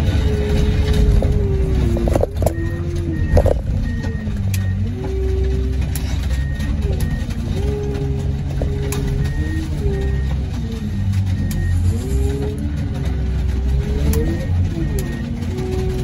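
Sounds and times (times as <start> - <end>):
heavy machinery engine running: 0.0 - 16.0
metal clanks: 0.0 - 16.0
reversing alarm beeping: 0.0 - 16.0.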